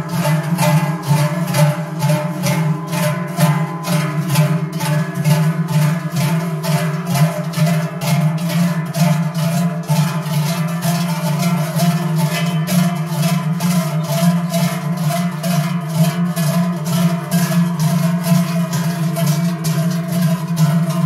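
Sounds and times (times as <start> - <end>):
cowbells clanging: 0.0 - 21.0.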